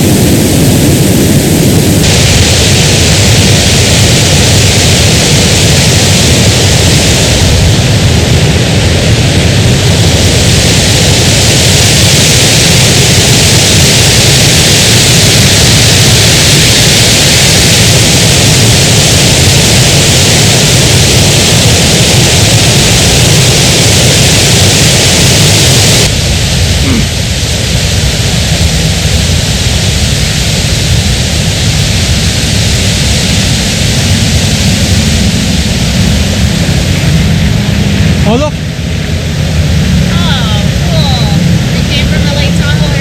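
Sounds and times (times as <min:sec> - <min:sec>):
loud steady rushing noise: 0:00.0 - 0:43.0.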